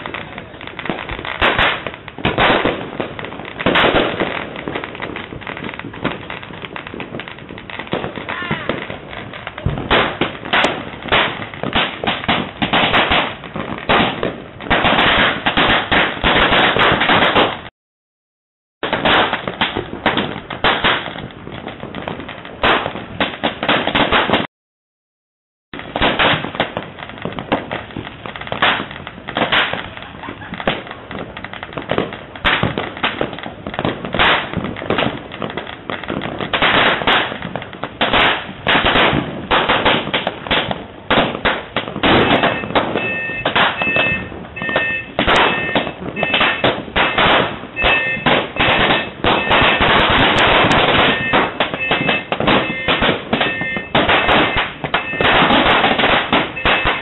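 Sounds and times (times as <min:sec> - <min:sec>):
firecrackers and fireworks banging: 0:00.0 - 0:17.7, 0:18.8 - 0:24.5, 0:25.7 - 0:57.0.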